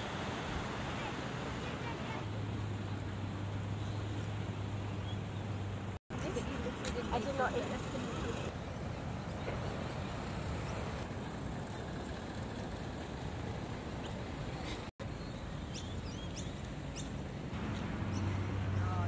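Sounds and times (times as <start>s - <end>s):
low rumbling outdoor noise: 0.0s - 19.0s.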